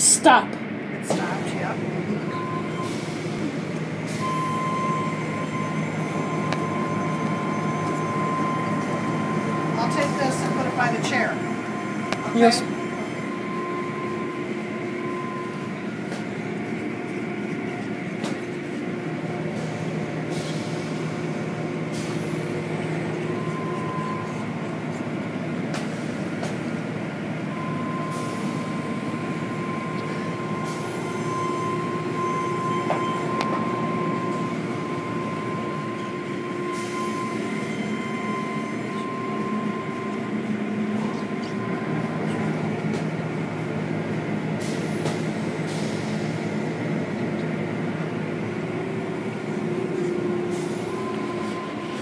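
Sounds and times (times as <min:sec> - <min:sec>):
car wash machinery rumbling: 0:00.0 - 0:52.0.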